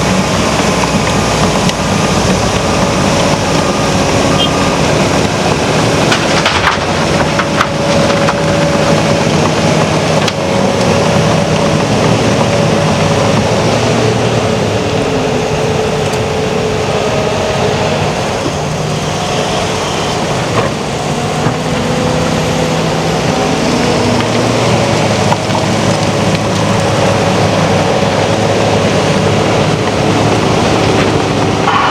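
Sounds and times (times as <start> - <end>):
diesel engines working under load: 0.0 - 31.9.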